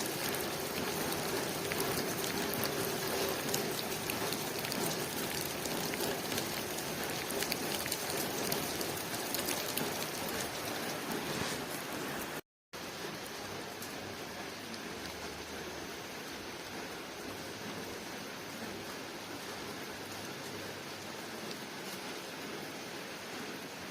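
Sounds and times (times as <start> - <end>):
rain on a window pane: 0.0 - 23.9.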